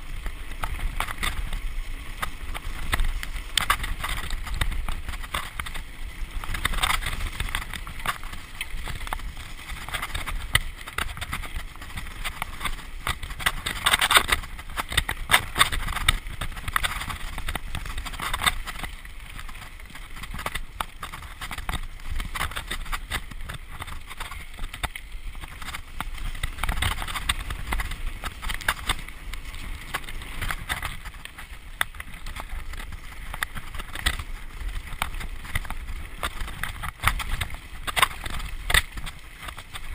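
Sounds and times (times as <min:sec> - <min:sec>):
bike rattling over bumps: 0:00.0 - 0:39.9
tyre noise on dirt: 0:00.0 - 0:39.9.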